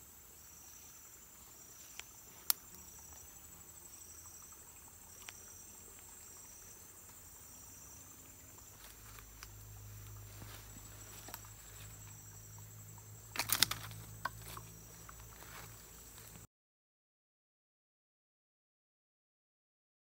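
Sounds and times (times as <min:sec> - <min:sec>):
insect pulsed call: 0:00.0 - 0:16.5
insects chirring: 0:00.0 - 0:16.5.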